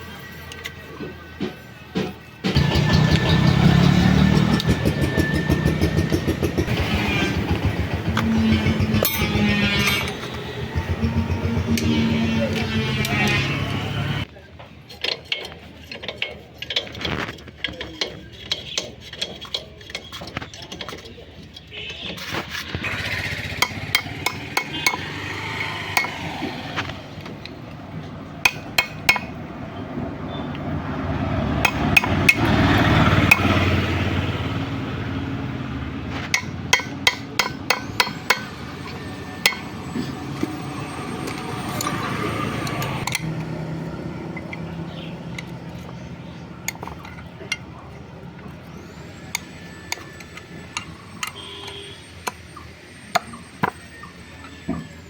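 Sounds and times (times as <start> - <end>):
engine rumble: 0.0 - 55.0
hand tools tapping on metal: 0.4 - 34.0, 36.1 - 55.0.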